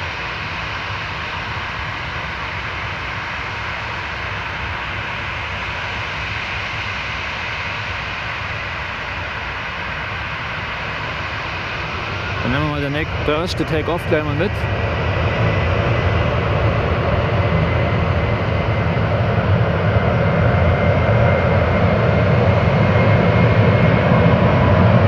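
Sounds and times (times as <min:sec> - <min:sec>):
jet engines whining: 0:00.1 - 0:25.0.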